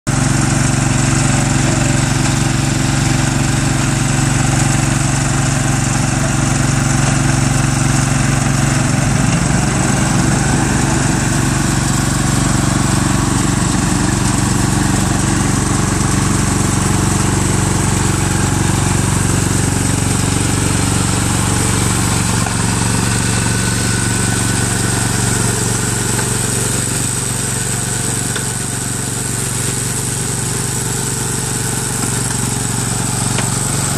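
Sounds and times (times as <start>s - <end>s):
paver engine running: 0.1s - 33.9s.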